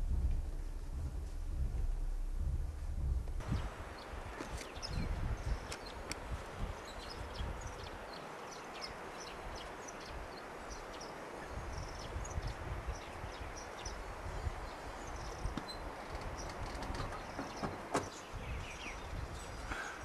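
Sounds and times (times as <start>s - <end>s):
low rumbles on microphone: 0.0s - 8.0s, 8.8s - 19.8s
steady hiss: 0.0s - 20.0s.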